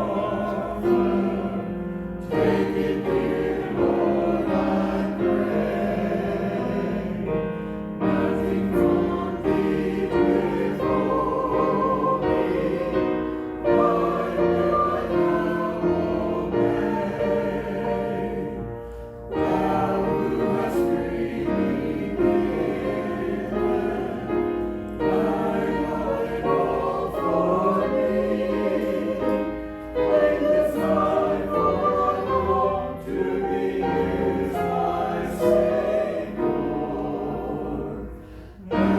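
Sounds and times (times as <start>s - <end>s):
many voices singing a hymn: 0.0s - 38.9s.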